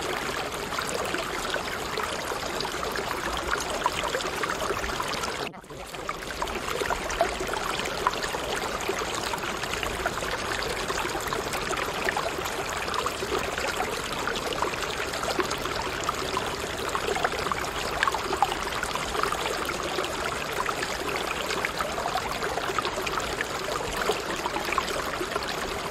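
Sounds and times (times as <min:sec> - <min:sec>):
running water bubbling: 0:00.0 - 0:25.9.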